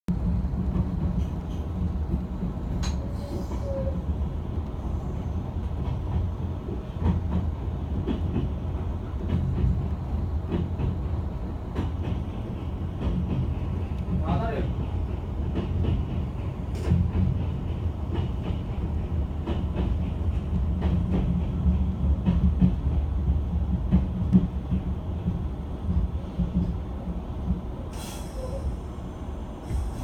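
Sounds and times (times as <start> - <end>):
train low rumble: 0.1 - 30.0
clicks and knocks from train car: 0.5 - 4.1, 5.6 - 27.7.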